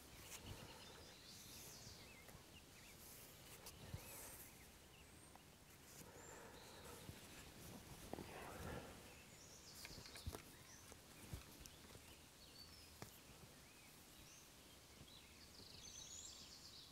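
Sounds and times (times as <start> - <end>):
distant bird chirps: 0.0 - 16.9.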